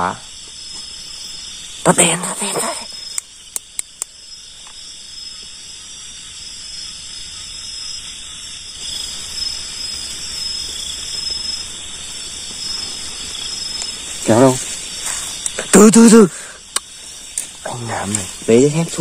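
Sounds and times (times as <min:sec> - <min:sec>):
crickets and insects trilling: 0:00.0 - 0:19.0.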